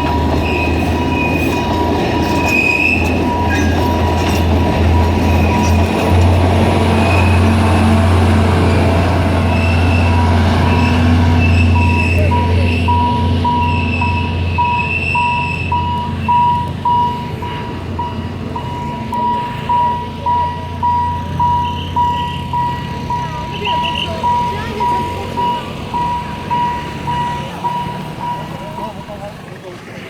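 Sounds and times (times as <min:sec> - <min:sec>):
train wheel squeal: 0:00.0 - 0:29.2
level-crossing warning bell: 0:00.0 - 0:29.6
train rumble: 0:00.0 - 0:30.0.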